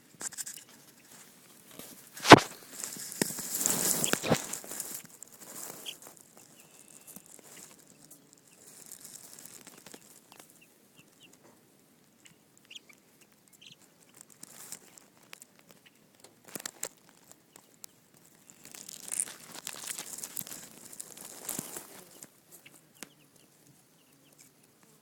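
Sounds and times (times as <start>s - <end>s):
baby chicks peeping: 2.7s - 24.8s.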